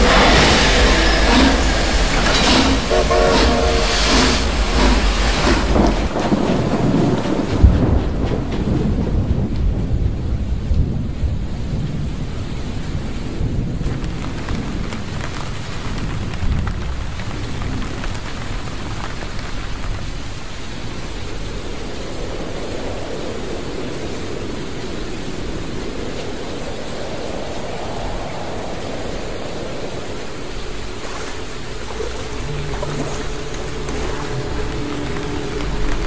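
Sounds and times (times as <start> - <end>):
gusting storm wind: 0.0 - 36.0
heavy rain: 0.0 - 36.0
low rumble of thunder: 0.0 - 36.0.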